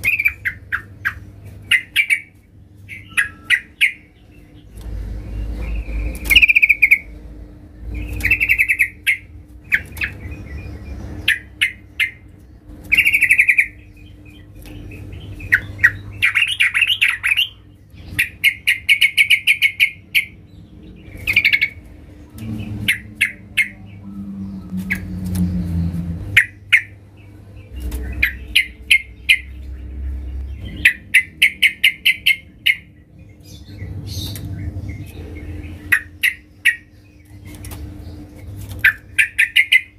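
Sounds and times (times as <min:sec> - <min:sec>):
bird singing bubbling phrases: 0:00.0 - 0:39.9
faint steady hum: 0:00.0 - 0:39.9.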